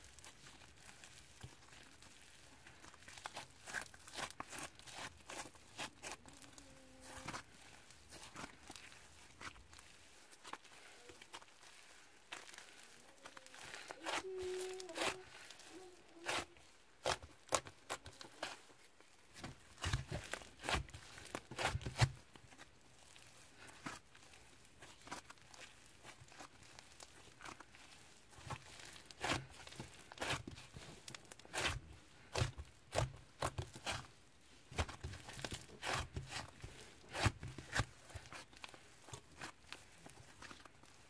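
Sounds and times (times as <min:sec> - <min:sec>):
slime squished by hand: 0:00.0 - 0:41.0.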